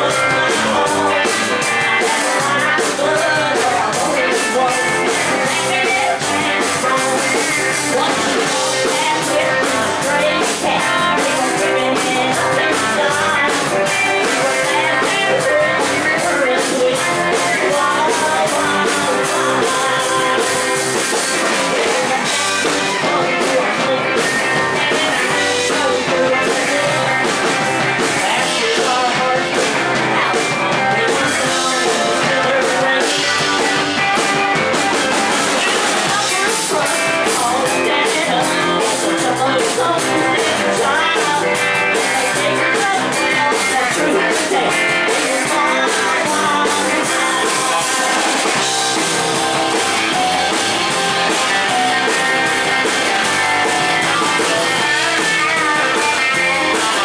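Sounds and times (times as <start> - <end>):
rock and roll band playing: 0.0 - 57.0.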